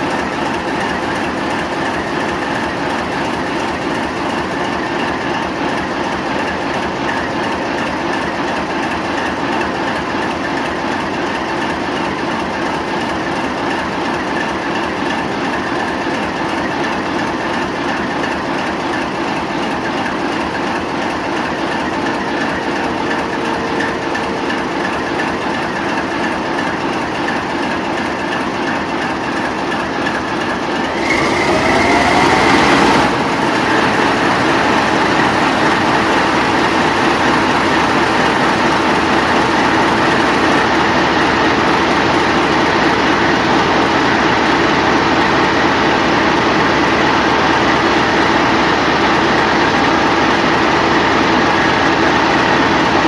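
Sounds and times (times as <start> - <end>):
diesel locomotive running: 0.0 - 53.0.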